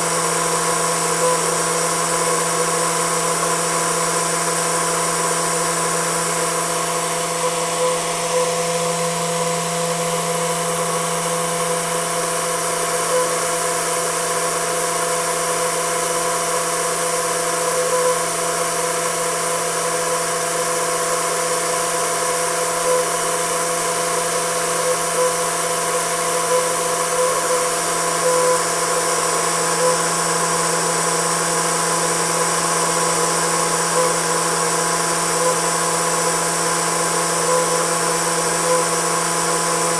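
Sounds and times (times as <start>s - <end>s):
turbine spinning with hum and hiss: 0.0s - 39.9s.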